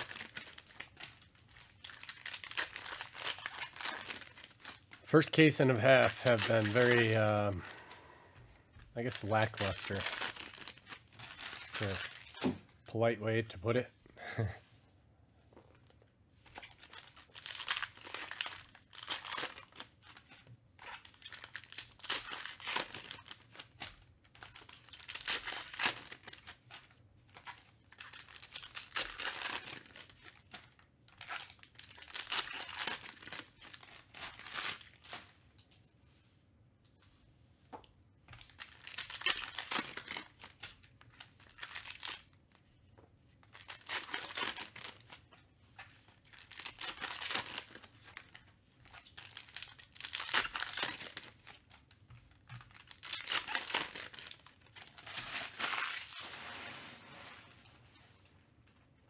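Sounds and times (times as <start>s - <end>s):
foil wrappers tearing and crinkling: 0.0s - 7.7s, 9.0s - 12.6s, 16.5s - 35.3s, 38.3s - 42.4s, 43.4s - 57.7s.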